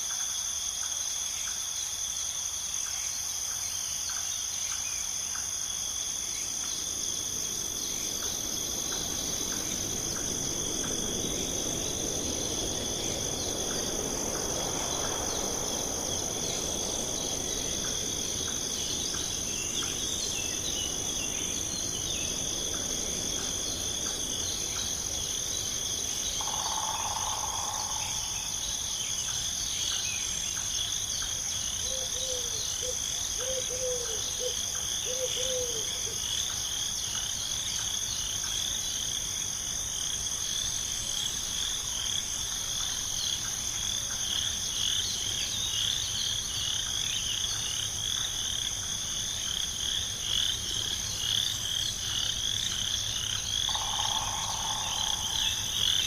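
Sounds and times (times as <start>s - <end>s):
insects chirring: 0.0s - 56.0s
frogs croaking: 0.6s - 56.0s
pulsing insect trill: 1.8s - 56.0s.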